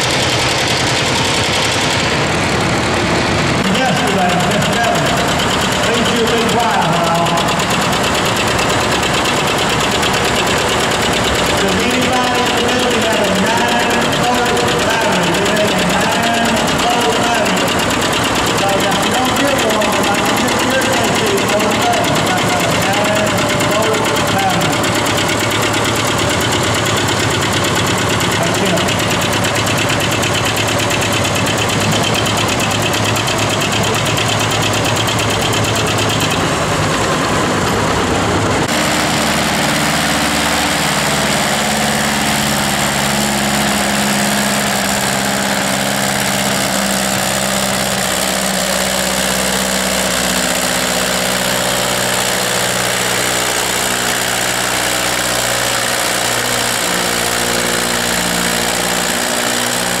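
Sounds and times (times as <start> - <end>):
tractor engines labouring: 0.0 - 60.0
tractor rapid rough firing: 0.0 - 60.0
tractor steady low running: 0.0 - 60.0.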